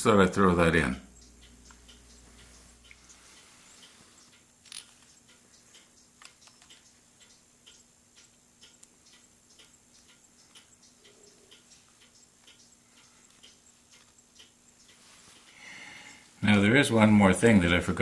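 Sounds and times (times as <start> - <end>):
low steady hum: 0.0 - 18.0
light clicks and ticks: 1.1 - 17.1.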